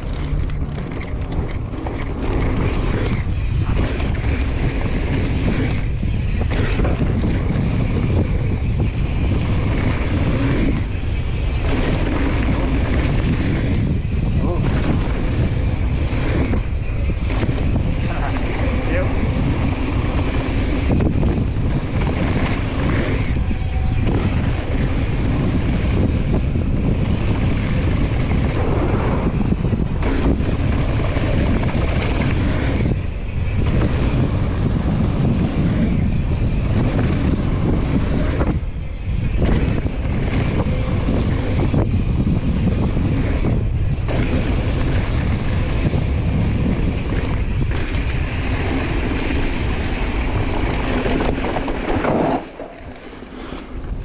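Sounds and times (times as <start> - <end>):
bike tyres rumbling on dirt trail: 0.0 - 54.0
wind buffeting microphone: 0.0 - 54.0.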